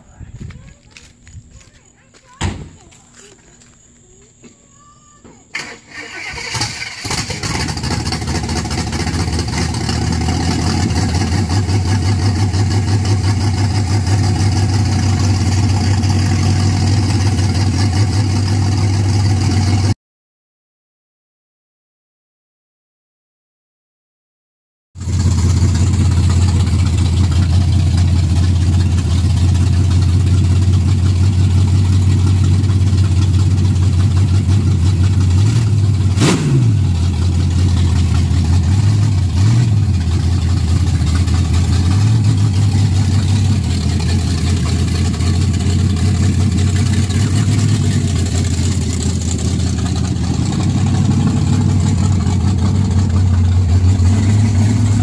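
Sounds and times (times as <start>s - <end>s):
engine throttle blips: 5.5s - 19.9s, 25.0s - 55.0s
car engine idling: 5.6s - 19.9s, 25.0s - 55.0s.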